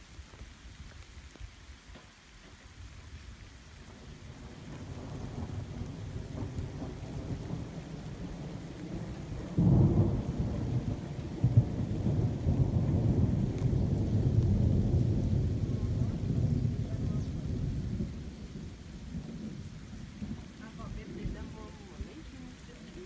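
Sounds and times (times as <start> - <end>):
rain: 0.0 - 23.0
low rolling thunder: 3.8 - 23.0.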